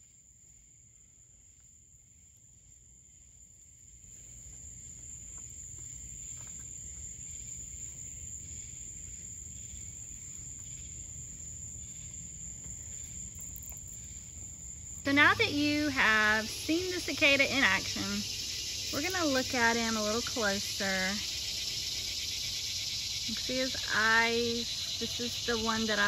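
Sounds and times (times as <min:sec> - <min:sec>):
cicada buzzing: 0:04.2 - 0:26.0.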